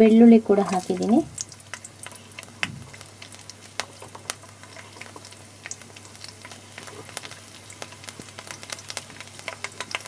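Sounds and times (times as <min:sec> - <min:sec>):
low steady hum: 0:00.0 - 0:10.0
spices sizzling in hot oil: 0:00.0 - 0:10.0.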